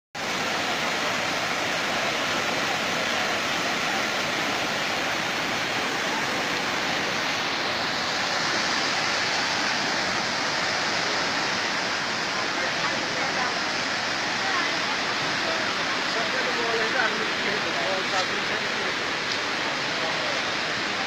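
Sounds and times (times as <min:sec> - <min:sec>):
river water rushing: 0:00.2 - 0:21.0.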